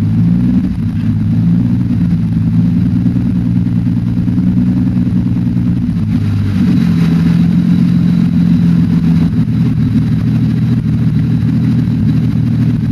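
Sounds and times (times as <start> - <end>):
engine running with misfire: 0.0 - 12.9.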